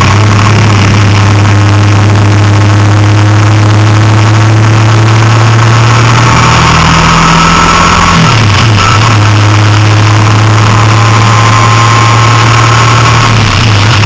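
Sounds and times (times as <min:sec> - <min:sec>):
rushing noise: 0:00.0 - 0:14.0
vehicle engine droning: 0:00.0 - 0:14.0.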